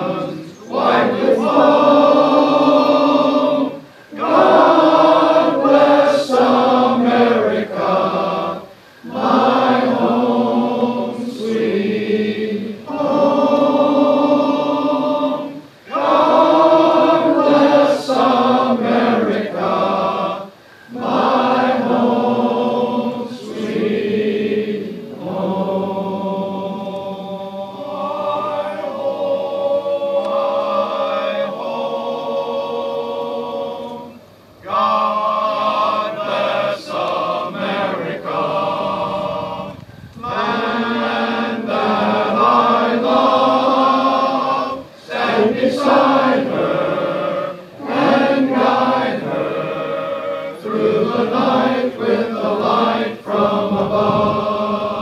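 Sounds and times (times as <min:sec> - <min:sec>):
men's chorus singing in harmony: 0:00.0 - 0:55.0.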